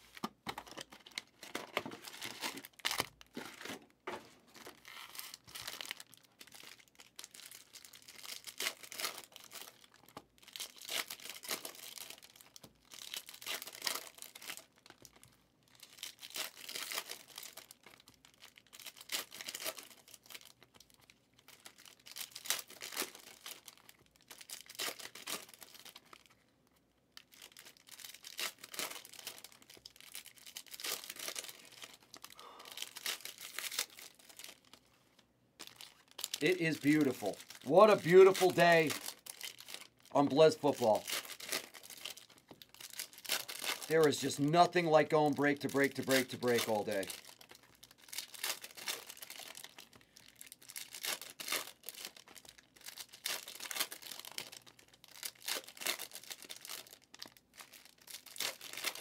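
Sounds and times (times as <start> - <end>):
trading cards crinkling and rustling: 0.0 - 26.4, 27.2 - 59.0.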